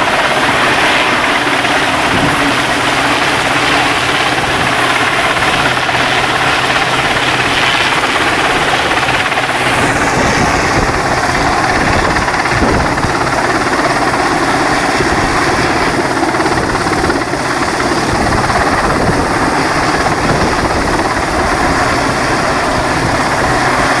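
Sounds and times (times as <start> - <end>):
helicopter hovering: 0.0 - 24.0.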